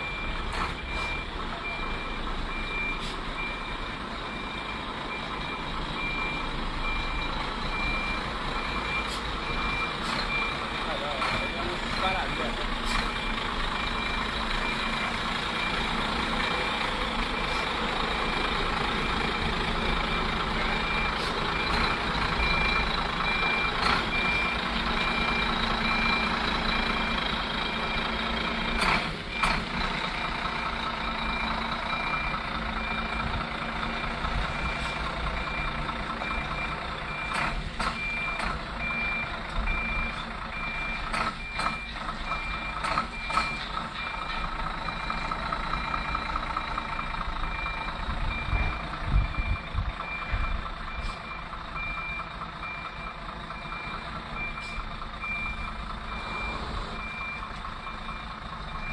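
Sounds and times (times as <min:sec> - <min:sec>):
reversing alarm beeping: 0:00.0 - 0:17.6, 0:18.2 - 0:29.6, 0:30.5 - 0:58.9
truck engine running: 0:00.0 - 0:58.9.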